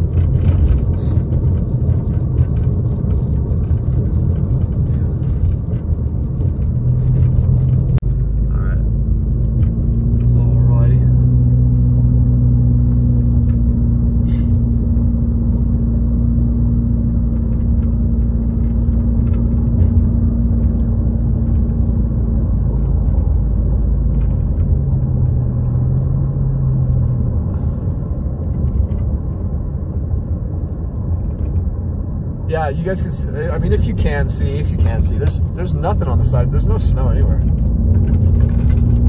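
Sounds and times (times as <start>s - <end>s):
car engine hum: 0.0s - 39.0s
road and tyre rumble: 0.0s - 39.0s.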